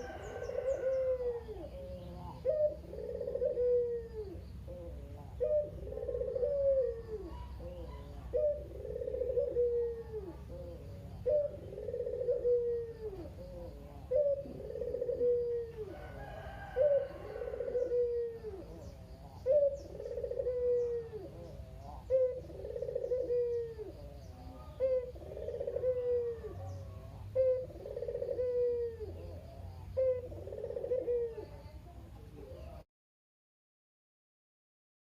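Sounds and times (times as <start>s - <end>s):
dove cooing: 0.0s - 32.8s.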